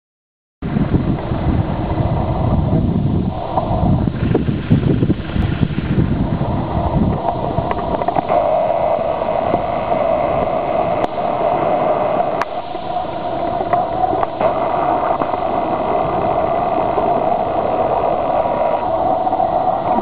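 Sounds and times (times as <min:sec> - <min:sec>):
wind buffeting microphone: 0:00.6 - 0:20.0
engine drone: 0:00.7 - 0:20.0.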